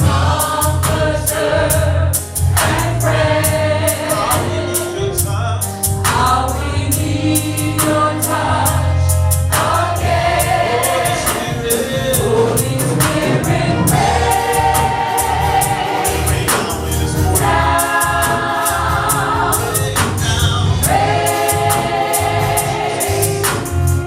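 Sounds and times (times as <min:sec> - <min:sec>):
band playing: 0:00.0 - 0:24.0
bass line: 0:00.0 - 0:24.0
gospel choir singing: 0:00.0 - 0:24.0.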